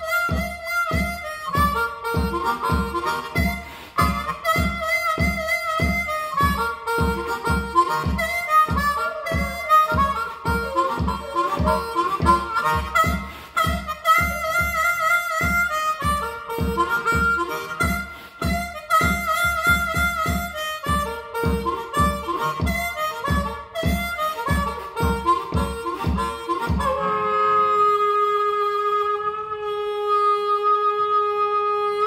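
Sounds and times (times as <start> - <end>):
blues harmonica solo: 0.0 - 32.0.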